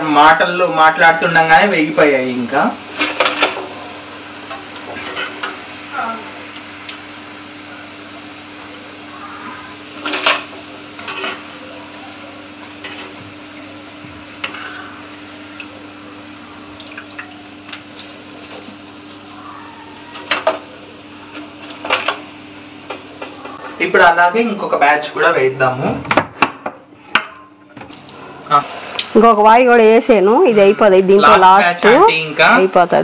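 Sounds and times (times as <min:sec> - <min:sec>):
hot oil sizzling: 0:00.0 - 0:33.0.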